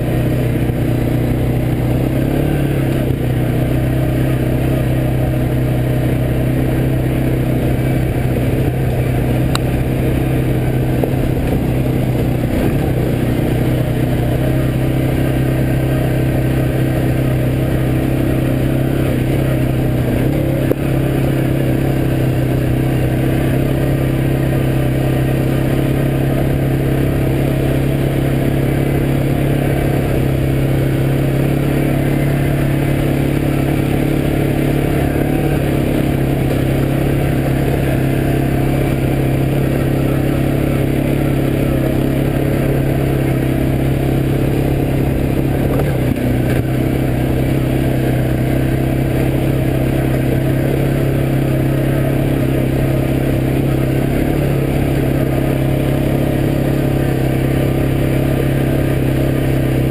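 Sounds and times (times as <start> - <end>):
atv engine running steadily: 0.0 - 59.9.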